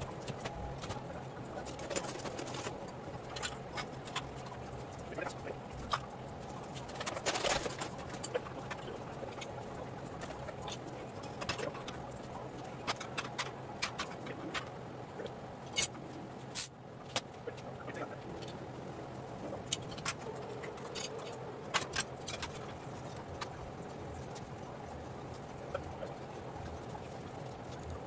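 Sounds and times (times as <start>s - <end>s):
low shop hum: 0.0s - 28.0s.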